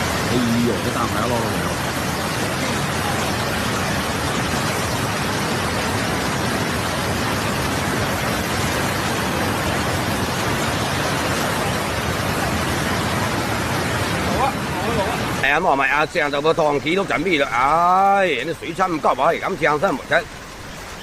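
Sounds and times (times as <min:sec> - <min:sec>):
water rushing: 0:00.0 - 0:21.0.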